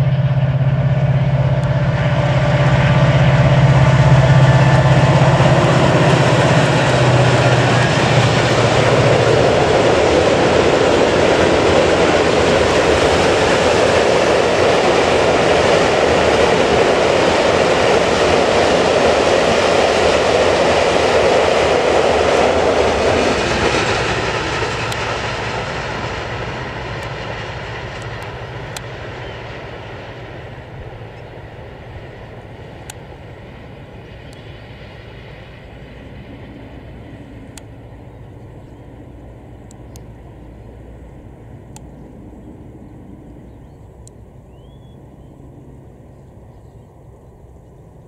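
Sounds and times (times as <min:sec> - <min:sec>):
train rolling past: 0:00.0 - 0:48.0.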